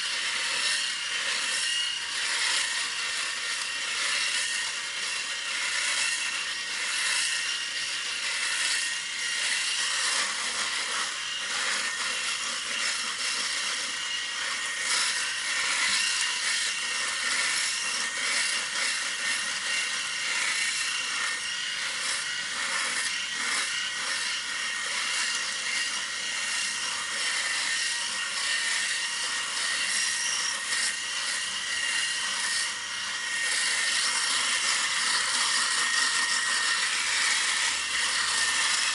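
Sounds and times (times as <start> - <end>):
electric shaver buzzing: 0.0 - 38.9.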